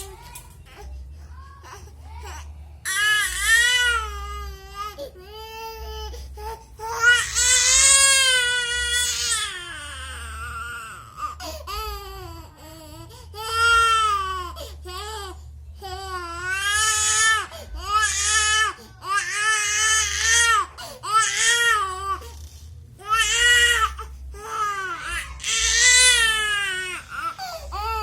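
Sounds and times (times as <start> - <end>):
baby crying: 0.7 - 12.8, 13.4 - 22.4, 23.0 - 28.0.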